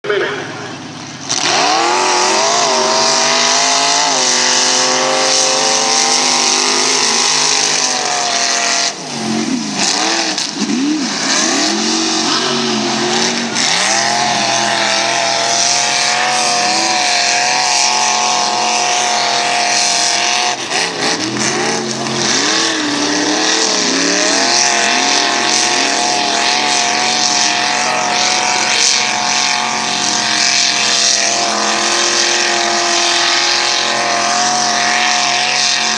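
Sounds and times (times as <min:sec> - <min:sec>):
truck engines revving high: 0:00.0 - 0:35.9.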